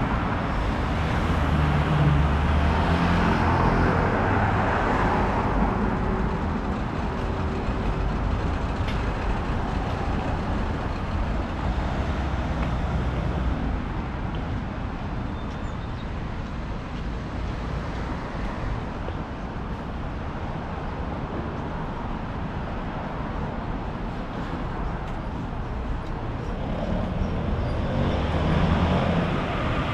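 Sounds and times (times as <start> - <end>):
road traffic rushing by: 0.0 - 29.9.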